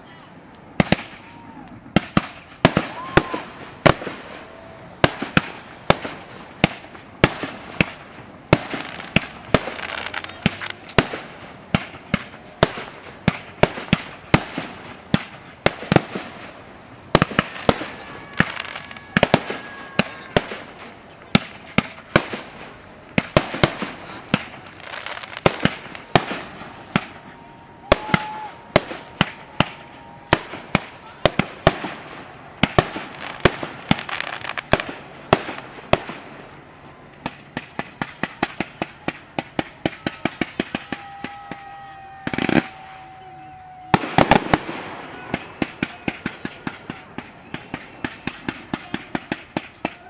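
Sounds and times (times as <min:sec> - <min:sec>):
fireworks bursting with sharp bangs: 0:00.0 - 0:50.0.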